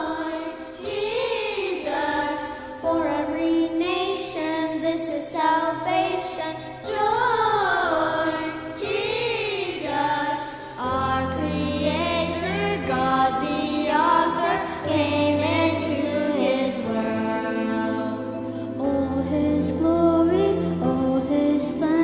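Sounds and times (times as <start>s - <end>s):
group singing a hymn: 0.0s - 3.3s, 6.3s - 22.0s
musical accompaniment: 0.0s - 22.0s.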